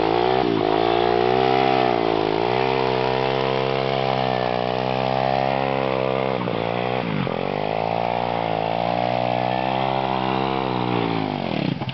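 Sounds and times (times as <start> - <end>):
rear wheel spinning in dirt: 0.0 - 11.9
small motorbike engine revving: 0.0 - 11.9.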